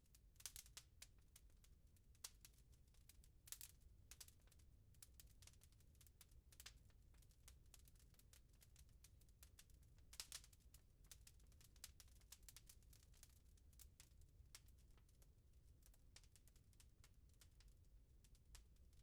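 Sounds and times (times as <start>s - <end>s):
wood fire crackling: 0.4s - 1.2s, 2.2s - 17.8s.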